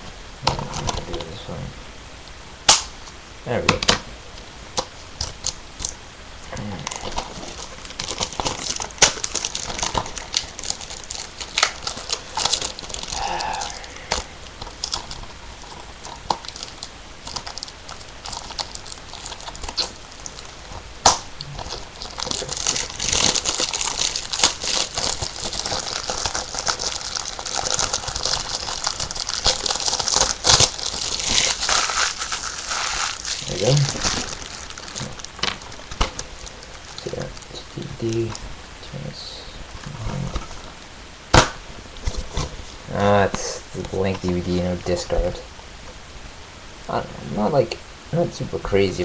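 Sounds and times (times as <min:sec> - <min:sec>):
plastic wrapping crinkling: 0:04.4 - 0:38.7, 0:39.6 - 0:45.3.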